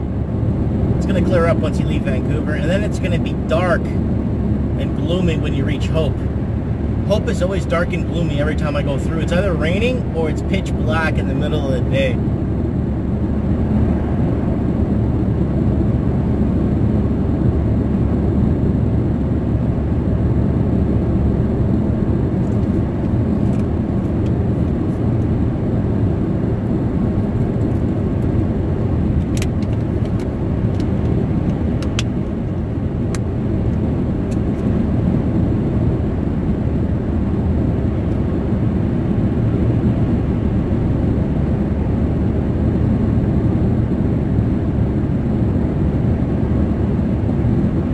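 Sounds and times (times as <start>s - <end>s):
road and tyre noise in car: 0.0s - 47.9s.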